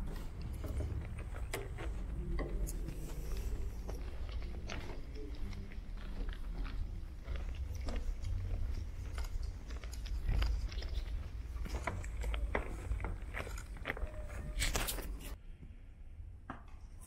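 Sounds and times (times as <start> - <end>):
footsteps climbing stairs: 0.0 - 15.2.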